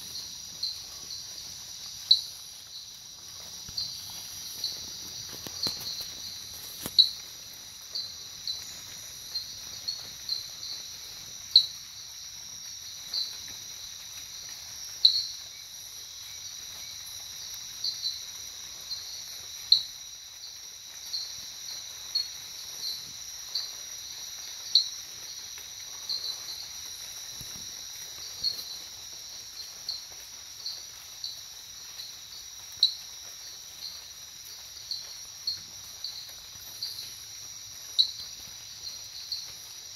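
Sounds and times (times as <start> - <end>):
sharp insect chirps: 0.0 - 39.9.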